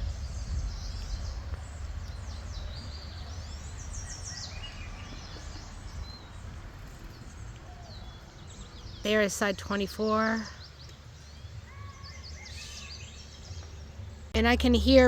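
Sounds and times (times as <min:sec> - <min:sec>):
steady low rumble: 0:00.0 - 0:10.0, 0:12.3 - 0:15.0
birds chirping and trilling: 0:00.0 - 0:15.0.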